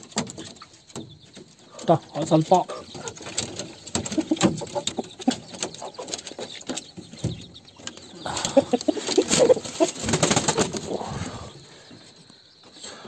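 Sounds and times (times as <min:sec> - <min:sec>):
scuffling and knocks in coop: 0:00.0 - 0:12.8
chickens clucking: 0:00.0 - 0:13.0.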